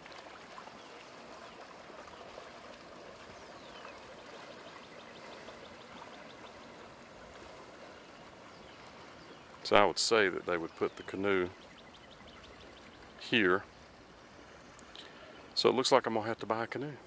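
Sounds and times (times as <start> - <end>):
lake water lapping: 0.0 - 17.0.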